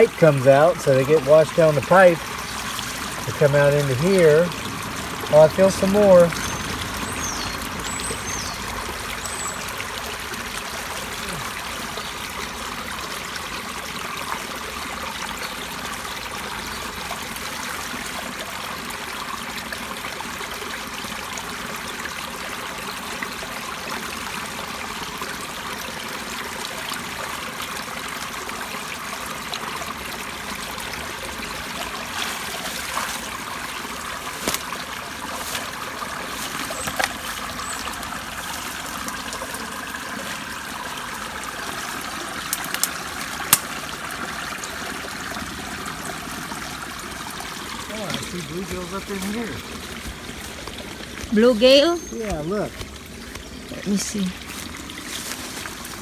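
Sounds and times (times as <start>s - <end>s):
water running from pipe: 0.0s - 56.0s.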